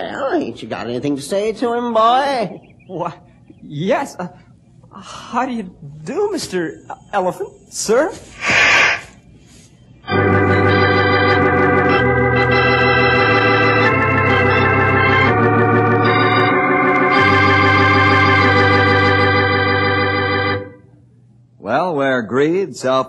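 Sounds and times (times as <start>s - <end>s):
sustained organ chords: 1.0s - 8.0s, 8.9s - 21.6s.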